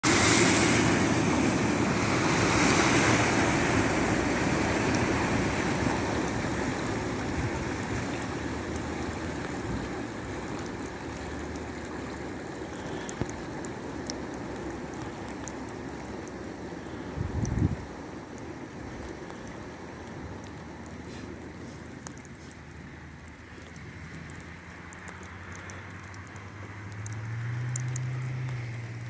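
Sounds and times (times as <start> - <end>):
vehicle splashing through floodwater: 0.0 - 29.0.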